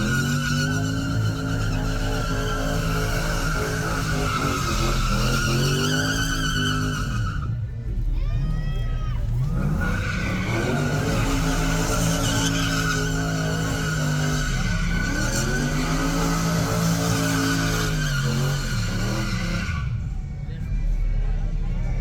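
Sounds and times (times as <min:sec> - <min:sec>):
car engine revving high: 0:00.0 - 0:07.4, 0:09.3 - 0:20.0
tires squealing: 0:00.0 - 0:22.0.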